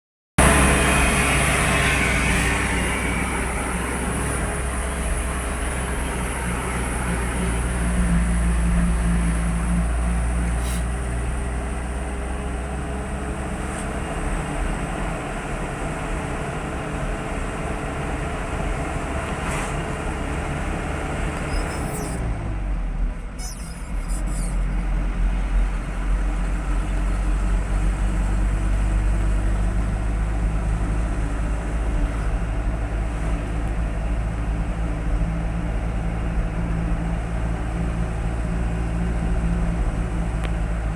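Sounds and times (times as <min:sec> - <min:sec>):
road noise hiss: 0:00.4 - 0:22.3, 0:23.3 - 0:40.9
truck engine low rumble: 0:00.4 - 0:40.9.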